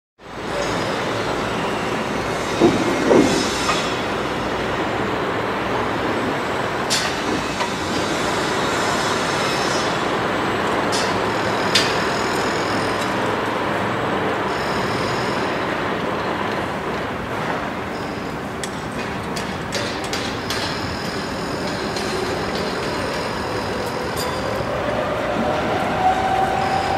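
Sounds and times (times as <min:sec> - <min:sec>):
heavy machinery engine noise: 0:00.2 - 0:26.9.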